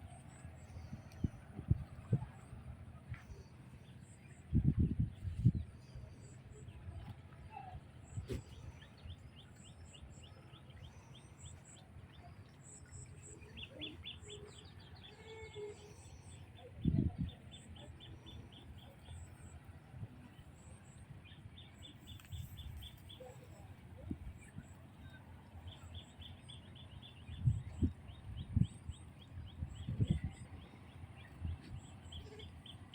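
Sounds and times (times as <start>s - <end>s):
steady low rumble: 0.0s - 15.2s, 15.9s - 32.9s.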